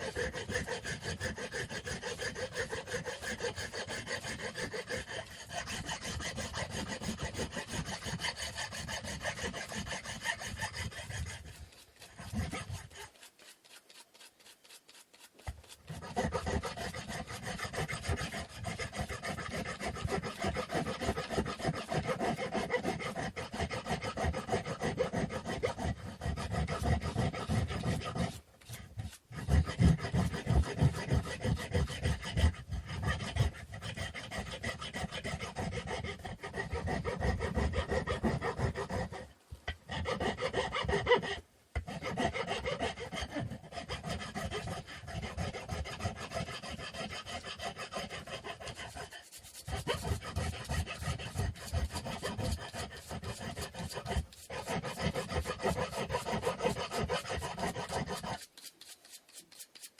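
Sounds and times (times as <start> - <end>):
hand sanding wooden stick: 0.0 - 59.9.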